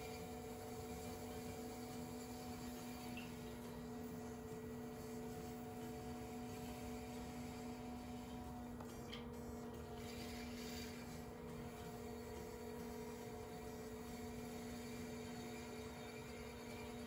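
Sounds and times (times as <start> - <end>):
pottery wheel humming: 0.0 - 17.0.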